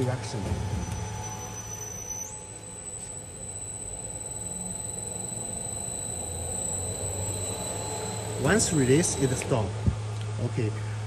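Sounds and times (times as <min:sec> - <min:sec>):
gear motor humming: 0:00.0 - 0:10.2
high-pitched motor whine: 0:00.0 - 0:11.0.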